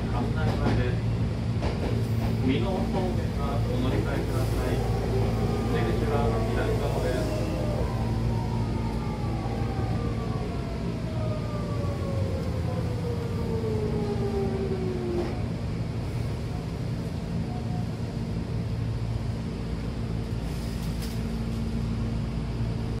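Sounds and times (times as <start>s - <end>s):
low running hum of train car: 0.0s - 23.0s.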